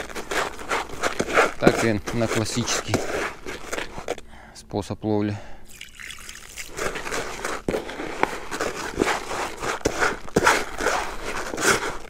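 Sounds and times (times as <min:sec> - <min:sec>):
hands stirring wet groundbait: 0:00.0 - 0:04.2, 0:05.6 - 0:12.0.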